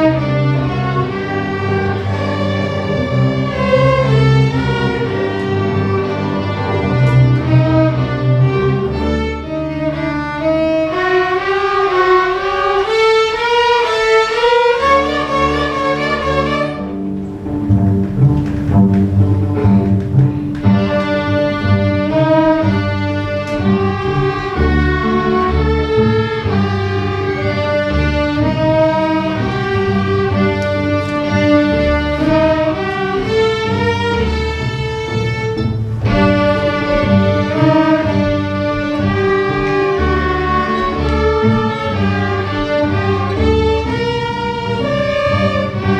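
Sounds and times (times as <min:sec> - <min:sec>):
low bass line: 0:00.0 - 0:10.4, 0:17.2 - 0:45.9
high violin notes: 0:00.0 - 0:45.9
string orchestra playing bowed notes: 0:00.0 - 0:45.9.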